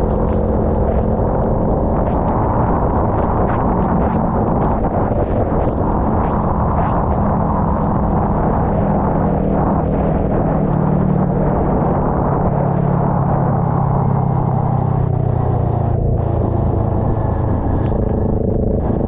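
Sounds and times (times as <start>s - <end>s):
motorcycle engine cruising: 0.0s - 19.0s
wet road noise: 0.0s - 19.0s.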